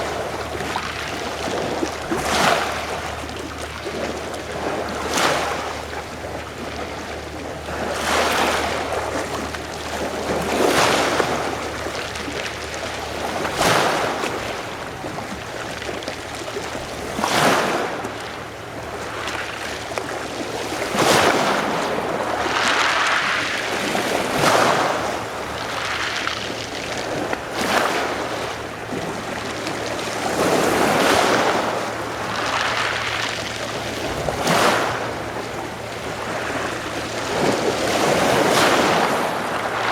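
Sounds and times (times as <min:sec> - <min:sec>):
waves splashing on shore: 0:00.0 - 0:39.9.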